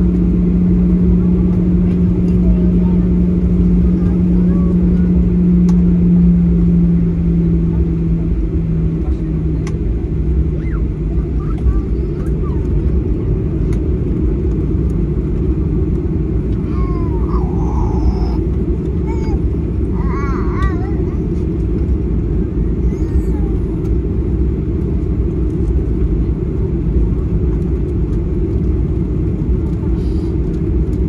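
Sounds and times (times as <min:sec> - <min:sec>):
jet cabin engine rumble: 0:00.0 - 0:31.0
low steady hum: 0:00.0 - 0:31.0.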